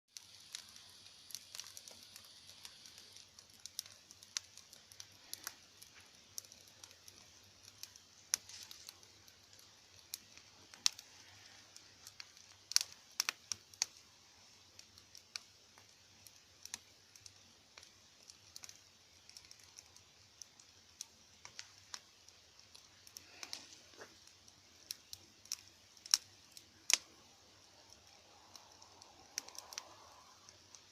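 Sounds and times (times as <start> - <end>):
faint fire hiss: 0.1 - 30.9
wood fire crackling and popping: 0.1 - 30.9.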